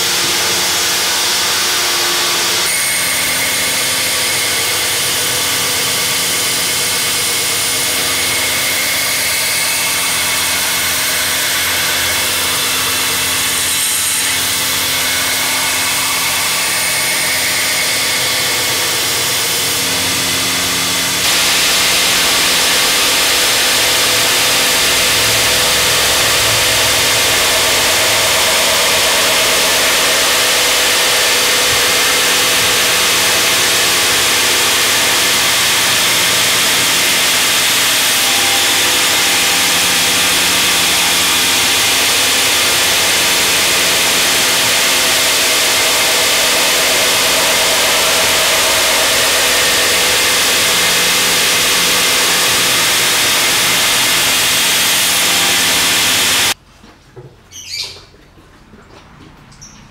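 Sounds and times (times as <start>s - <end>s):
belt grinder motor hum: 0.0s - 56.6s.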